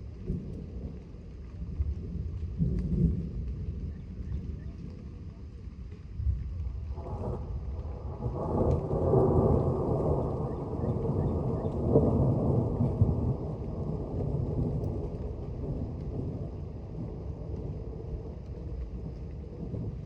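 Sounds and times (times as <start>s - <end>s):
faint rain hiss: 0.0s - 20.0s
rolling thunder: 0.0s - 20.0s.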